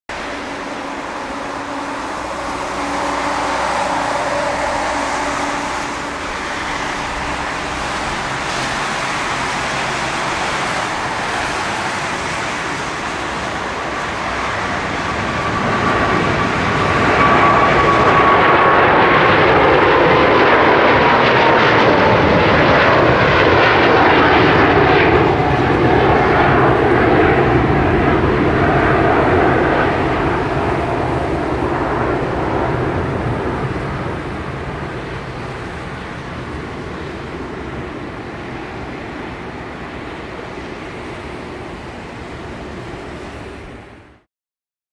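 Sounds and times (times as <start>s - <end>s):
high whine falling in pitch: 0.1s - 38.8s
jet engines at takeoff power: 0.1s - 44.3s.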